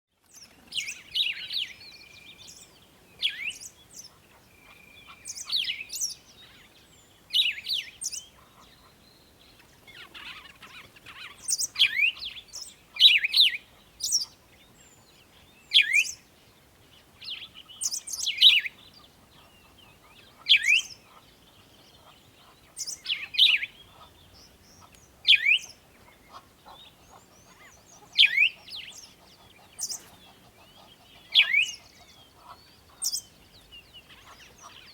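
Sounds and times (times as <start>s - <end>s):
birds singing: 0.3s - 34.9s.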